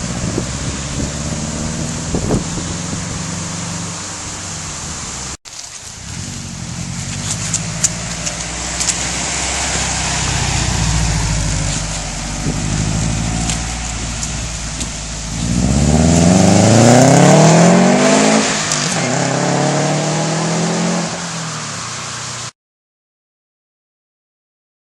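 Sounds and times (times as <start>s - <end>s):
turbocharged car engine revving: 0.0s - 5.4s, 6.0s - 22.5s.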